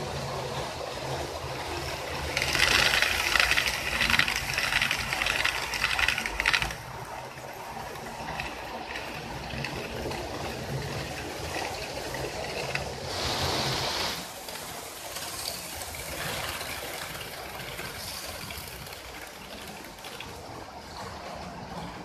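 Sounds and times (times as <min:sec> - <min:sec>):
model train wheels on rail: 0:00.0 - 0:22.0.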